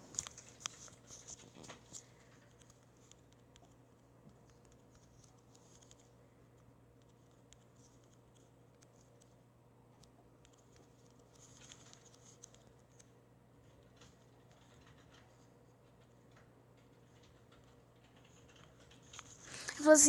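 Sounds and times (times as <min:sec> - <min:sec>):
light clicks and scratches: 0:00.0 - 0:20.0
low electrical hum: 0:00.0 - 0:20.0.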